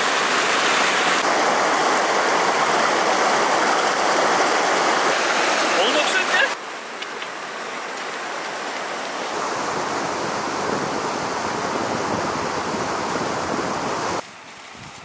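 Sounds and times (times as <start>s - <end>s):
river rushing over stones: 0.0s - 14.8s.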